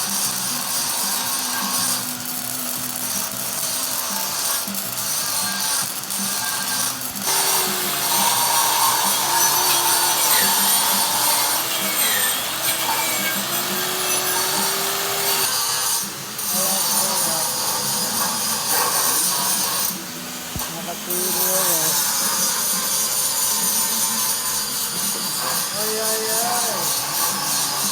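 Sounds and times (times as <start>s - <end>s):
welding arc crackling and hissing: 0.0s - 27.9s.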